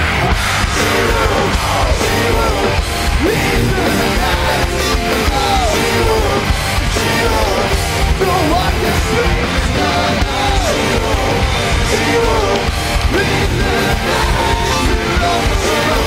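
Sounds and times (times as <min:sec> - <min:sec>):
distorted electric guitars: 0:00.0 - 0:16.0
drums: 0:00.0 - 0:16.0.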